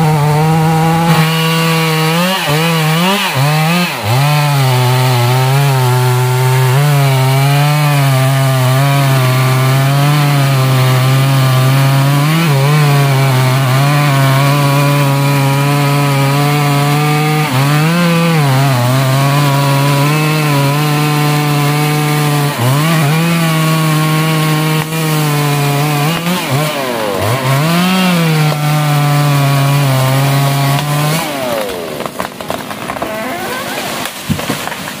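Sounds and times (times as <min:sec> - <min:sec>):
chainsaw cutting at full throttle: 0:00.0 - 0:35.0
tree cracking and crashing: 0:00.2 - 0:35.0.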